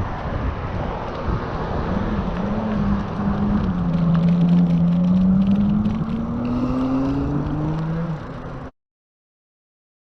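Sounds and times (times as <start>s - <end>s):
wind and bicycle road noise: 0.0s - 8.7s.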